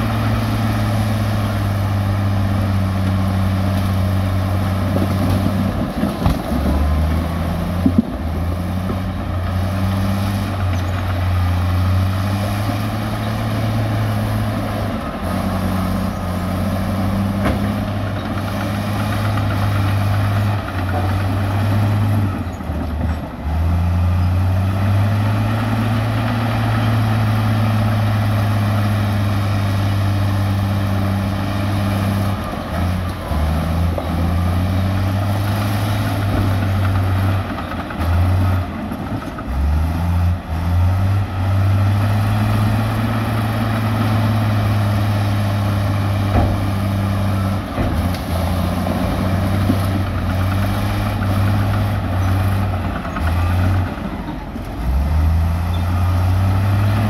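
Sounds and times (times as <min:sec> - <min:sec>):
heavy diesel engine drone: 0:00.0 - 0:57.0.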